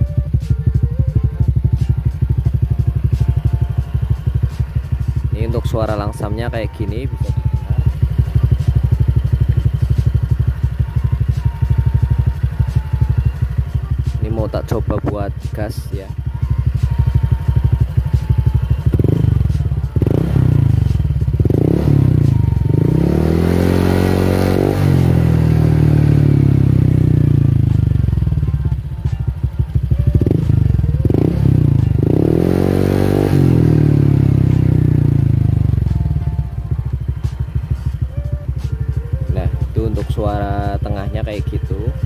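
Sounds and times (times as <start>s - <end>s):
scooter engine revving: 0.0s - 15.4s, 16.2s - 42.0s.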